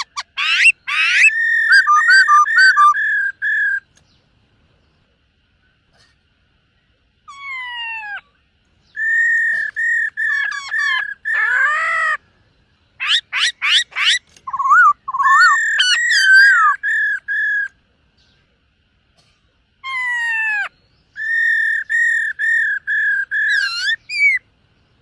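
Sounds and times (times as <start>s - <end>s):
bird whistling song: 0.0s - 4.3s, 7.3s - 18.4s, 19.8s - 25.0s.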